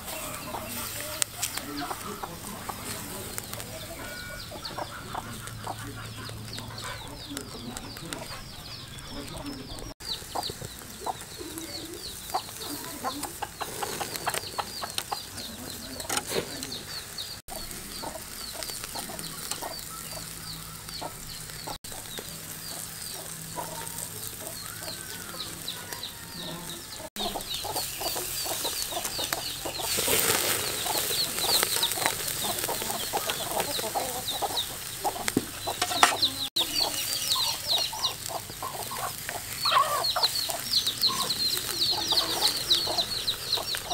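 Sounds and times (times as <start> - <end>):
chickens cheeping: 0.0 - 43.9
meat sizzling on a grill: 0.0 - 43.9.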